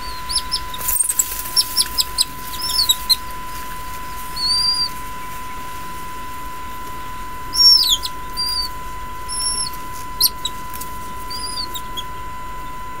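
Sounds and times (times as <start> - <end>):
nestlings squealing: 0.0 - 12.8.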